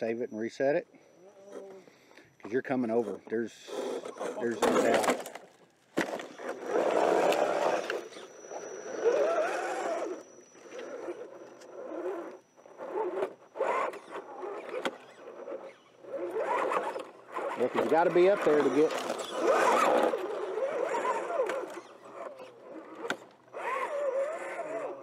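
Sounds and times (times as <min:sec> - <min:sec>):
electric motor whining: 0:02.9 - 0:25.0
tyres scraping on rock: 0:03.7 - 0:25.0.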